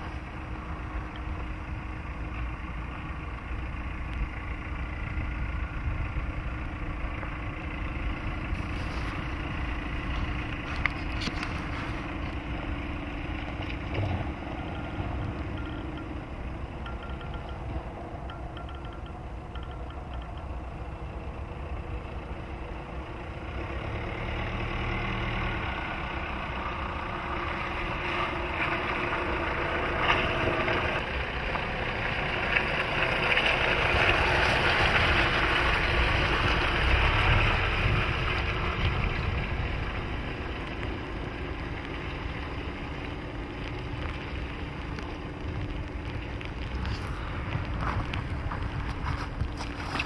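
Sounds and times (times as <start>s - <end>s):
diesel engine running at low revs: 0.0s - 50.0s.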